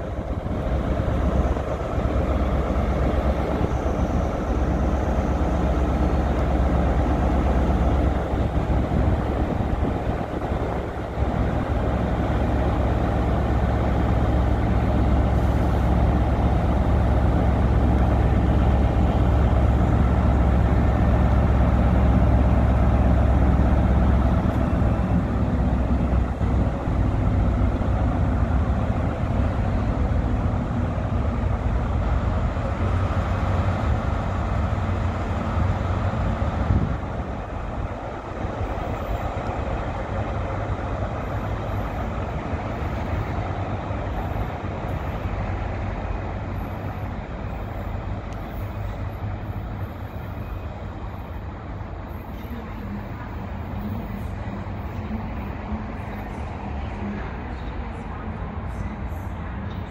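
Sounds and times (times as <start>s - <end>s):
diesel train engine humming: 0.0s - 59.9s.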